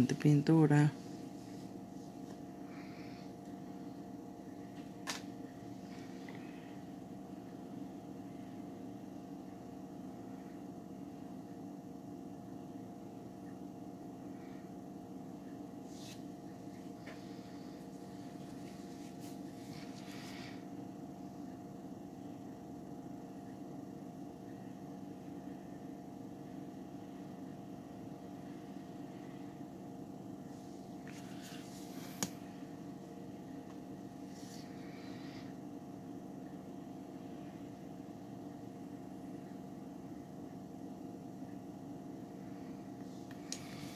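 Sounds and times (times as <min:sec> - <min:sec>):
low background hum: 0:00.0 - 0:43.9.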